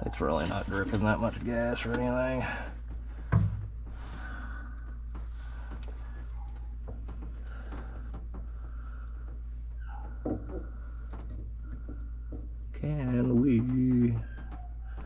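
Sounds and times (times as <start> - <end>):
fuel pump knocking and rattling: 0.0 - 15.0
steady low hum: 0.0 - 15.0.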